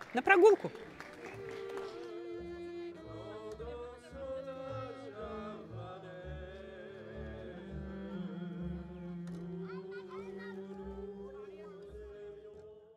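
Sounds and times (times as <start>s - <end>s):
slow sustained background music: 0.8s - 12.9s.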